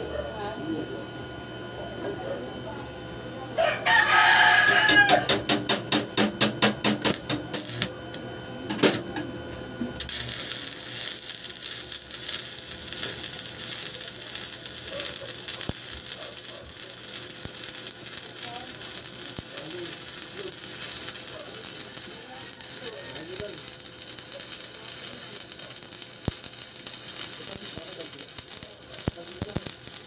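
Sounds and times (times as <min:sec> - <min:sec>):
welding arc crackling and hissing: 0:04.8 - 0:09.0, 0:10.0 - 0:30.0.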